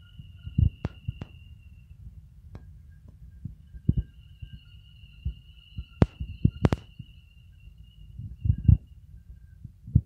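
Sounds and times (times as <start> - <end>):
steady high whine: 0.0 - 10.0.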